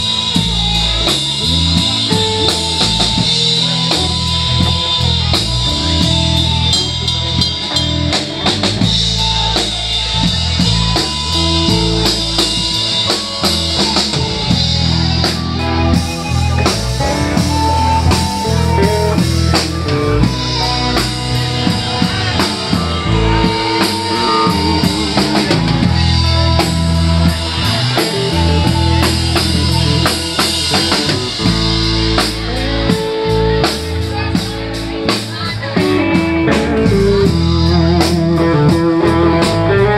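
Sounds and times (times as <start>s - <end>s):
amplified harmonica: 0.0s - 39.9s
electric blues band playing: 0.0s - 39.9s.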